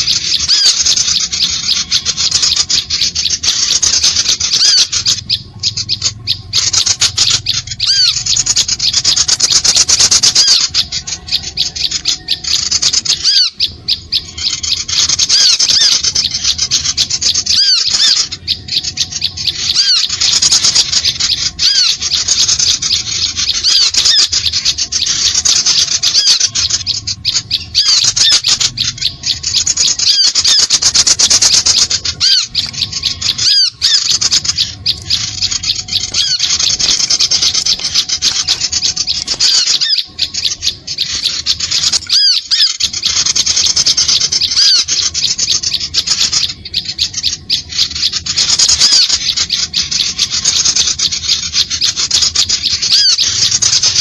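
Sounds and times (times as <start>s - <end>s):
small birds chattering and calling: 0.0s - 54.0s.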